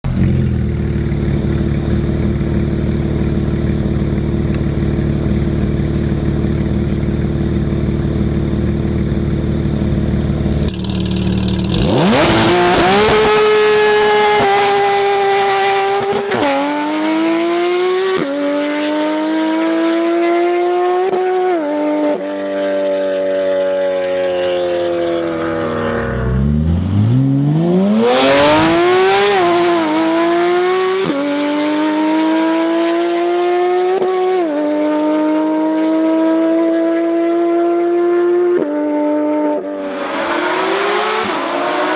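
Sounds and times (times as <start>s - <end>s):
car accelerating with upshifts: 0.1s - 41.9s
sports car engine revving: 0.1s - 41.9s.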